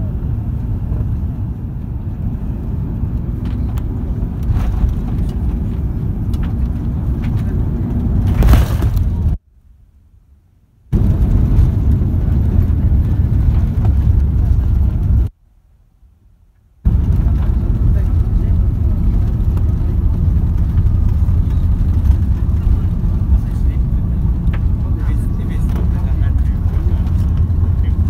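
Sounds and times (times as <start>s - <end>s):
airplane cabin rumble: 0.0s - 9.4s, 10.9s - 15.3s, 16.8s - 28.0s.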